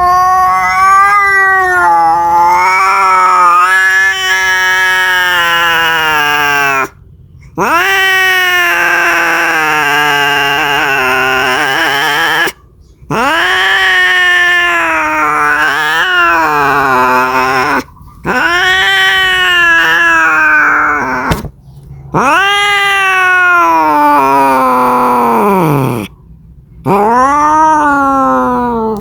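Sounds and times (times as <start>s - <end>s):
cat yowling: 0.0s - 7.0s, 7.6s - 21.5s, 22.1s - 26.2s, 26.8s - 29.0s.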